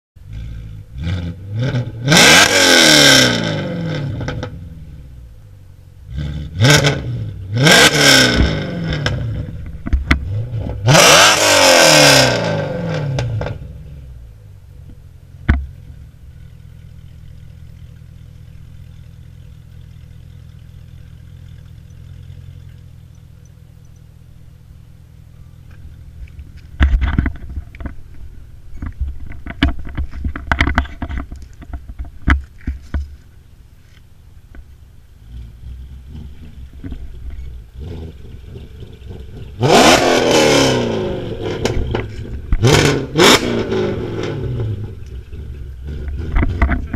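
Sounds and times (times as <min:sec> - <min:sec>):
car engine revving: 0:00.2 - 0:33.0, 0:34.6 - 0:46.9
car pulling away: 0:00.2 - 0:46.9
car engine idling: 0:03.3 - 0:46.9.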